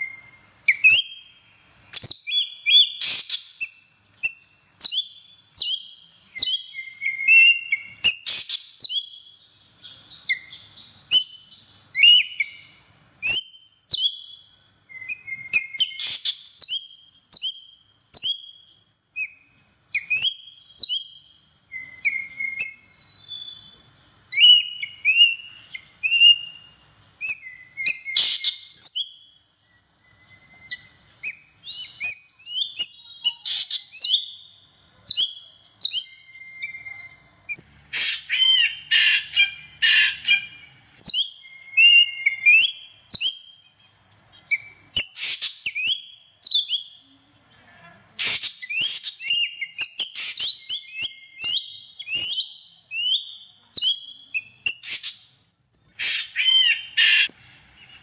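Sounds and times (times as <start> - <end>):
bird singing whistled notes: 0.0 - 47.2, 48.2 - 58.0.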